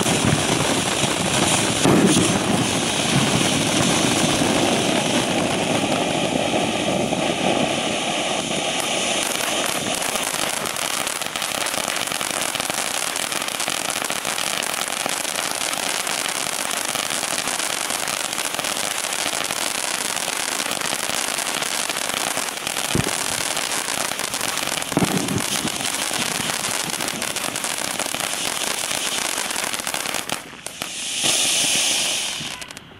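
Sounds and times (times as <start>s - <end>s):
firework fountain hissing and crackling: 0.0s - 32.9s.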